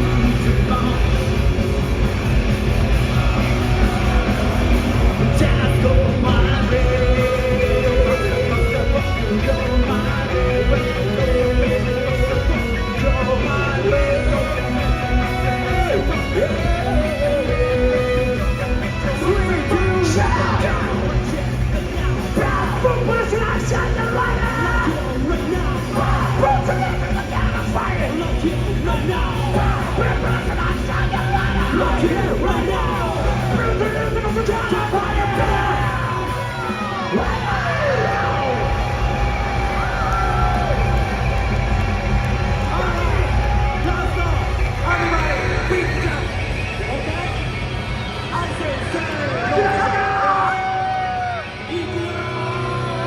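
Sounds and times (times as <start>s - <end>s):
live rock band playing: 0.0s - 53.0s
singers singing and yelling: 0.0s - 53.0s.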